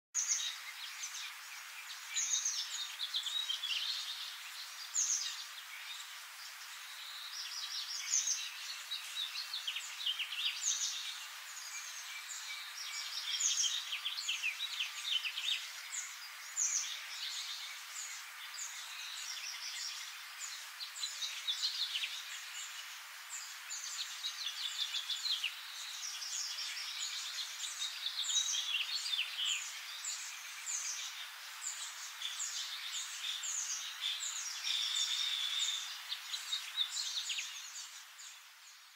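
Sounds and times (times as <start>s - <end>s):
small birds chirping: 0.2s - 38.9s.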